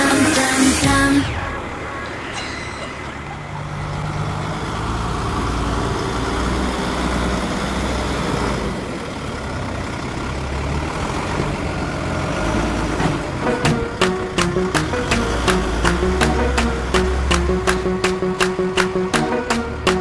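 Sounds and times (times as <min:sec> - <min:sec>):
tractor diesel engine humming: 0:02.9 - 0:20.0.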